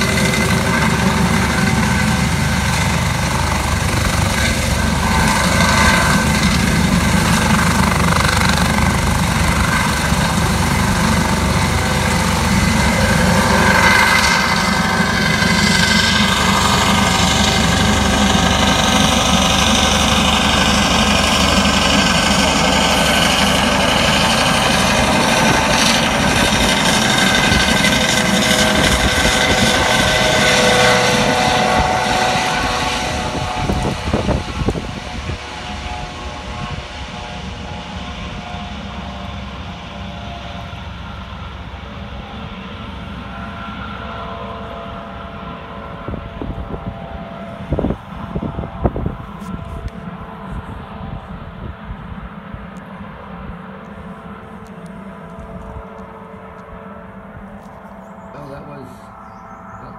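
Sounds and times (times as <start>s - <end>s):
helicopter rotor beating: 0.0s - 59.9s
helicopter turbine whine: 0.0s - 59.9s.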